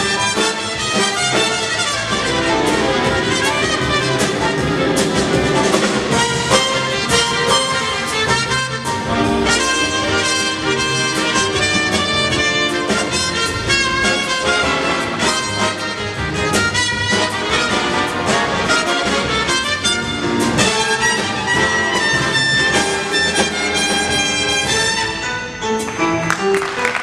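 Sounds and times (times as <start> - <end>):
driving drum kit: 0.0 - 25.2
trumpets and trombones: 0.0 - 27.0.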